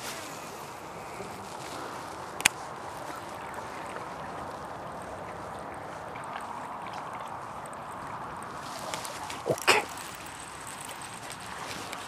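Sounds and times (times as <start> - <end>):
water lapping against rocks: 0.0 - 12.0.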